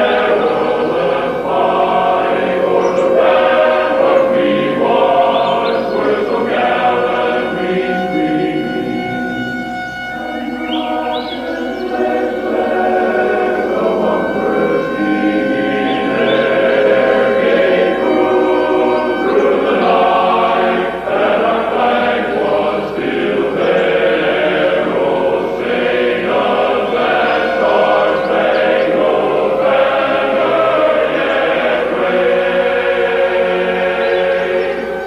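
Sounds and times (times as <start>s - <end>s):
choir singing sustained notes: 0.0s - 35.0s.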